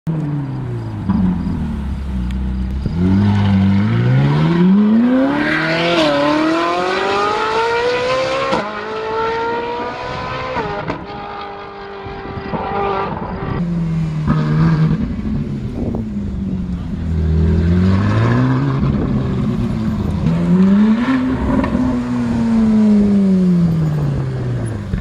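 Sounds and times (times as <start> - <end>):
sports car engine accelerating: 0.1 - 25.0.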